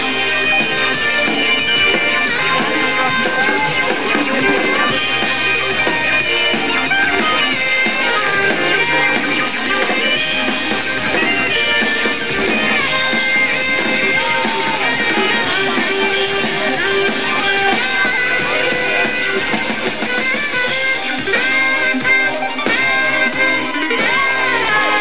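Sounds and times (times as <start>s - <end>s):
loud live electronic music: 0.0s - 25.0s.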